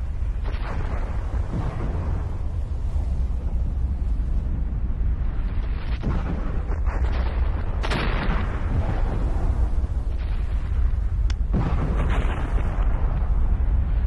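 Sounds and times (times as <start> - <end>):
explosive blasts: 0.0 - 3.9, 5.2 - 14.0
deep volcanic rumble: 0.0 - 14.0.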